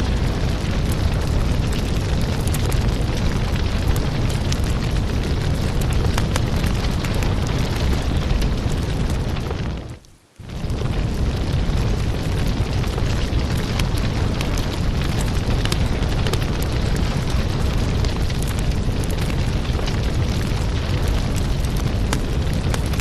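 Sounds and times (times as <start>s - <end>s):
firewood crackling and popping: 0.0s - 23.0s
low rush of flames: 0.0s - 23.0s.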